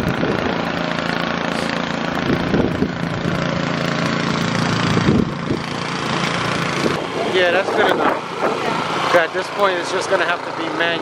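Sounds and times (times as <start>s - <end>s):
snowblower engine running: 0.0s - 11.0s.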